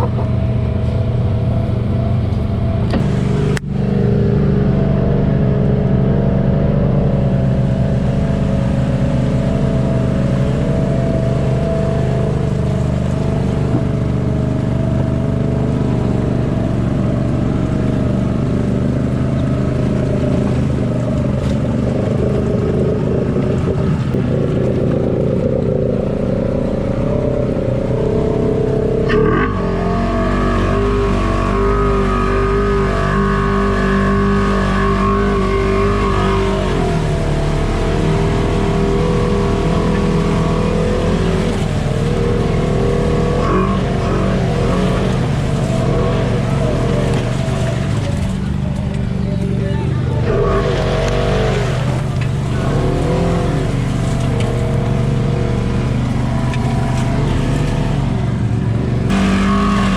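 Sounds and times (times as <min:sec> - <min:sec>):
utility vehicle engine running: 0:00.0 - 0:59.9.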